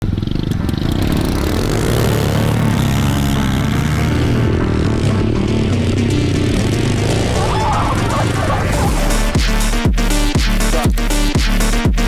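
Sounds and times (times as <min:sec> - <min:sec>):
small engine running: 0:00.0 - 0:11.8.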